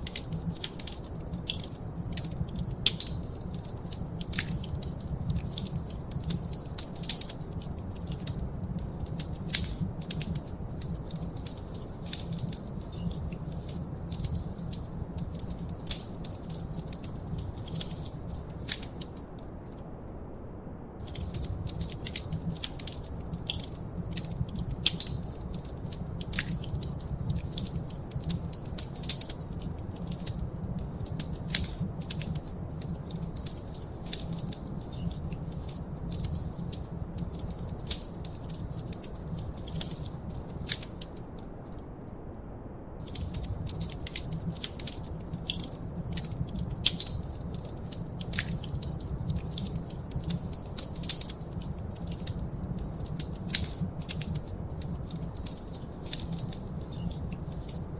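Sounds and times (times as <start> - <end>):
wood fire crackling: 0.0 - 20.0, 21.0 - 42.2, 43.0 - 57.9.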